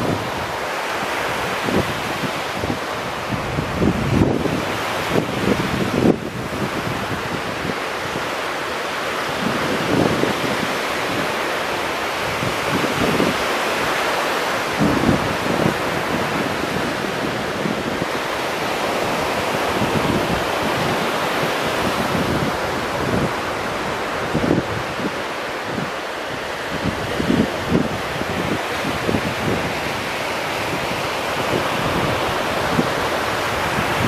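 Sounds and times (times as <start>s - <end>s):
waves breaking on beach: 0.0s - 34.0s
wind buffeting microphone: 0.0s - 34.0s.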